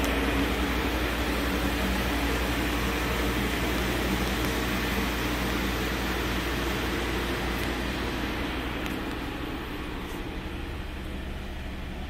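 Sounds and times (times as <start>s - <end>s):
car engine fast idle: 0.1s - 12.0s.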